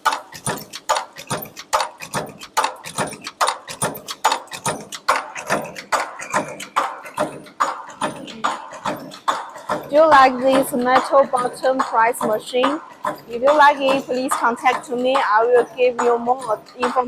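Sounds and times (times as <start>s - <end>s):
punch press clattering: 0.0s - 17.0s.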